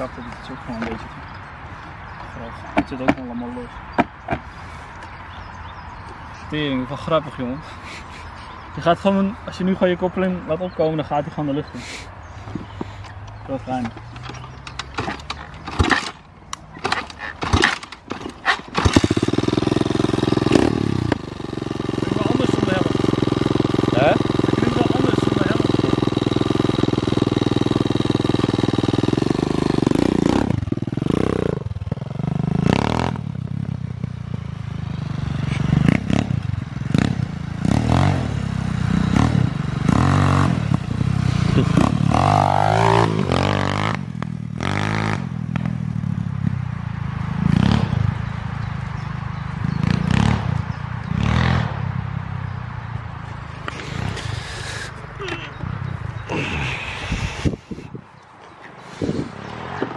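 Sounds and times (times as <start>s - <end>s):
motorbike engine idling and revving: 0.0s - 59.9s.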